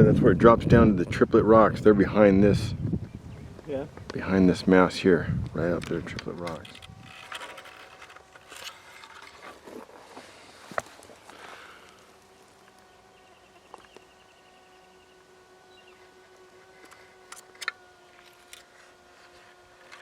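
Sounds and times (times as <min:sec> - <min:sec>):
bee buzzing: 0:01.6 - 0:20.0.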